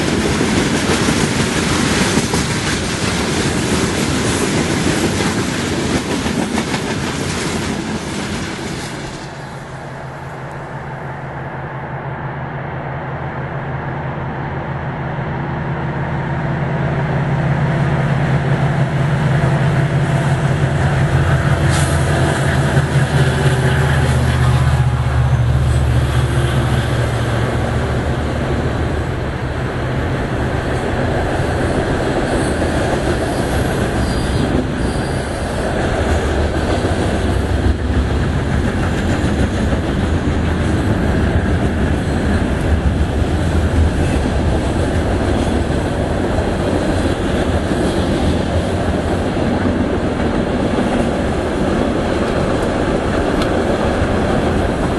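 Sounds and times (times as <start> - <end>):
model train wheels rumbling on track: 0.0 - 10.8, 16.9 - 54.9.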